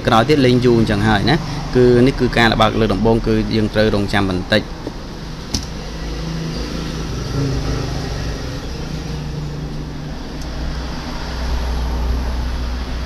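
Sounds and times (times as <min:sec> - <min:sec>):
traffic-like rumble and hiss: 0:00.0 - 0:13.0.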